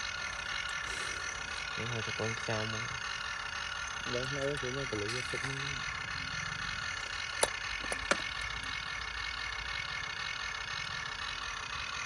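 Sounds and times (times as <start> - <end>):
toy truck motor running: 0.0 - 12.0.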